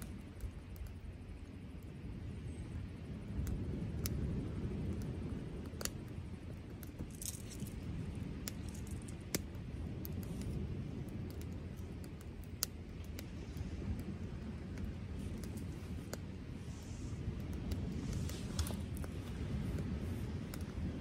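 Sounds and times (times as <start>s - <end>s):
low steady rumble: 0.0s - 21.0s
wood fire crackling: 0.0s - 21.0s.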